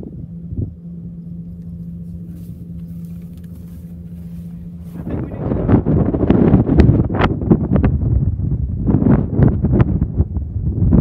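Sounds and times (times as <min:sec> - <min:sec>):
low hum: 0:00.0 - 0:11.0
low rumble: 0:00.0 - 0:11.0
wind buffeting microphone: 0:00.0 - 0:11.0.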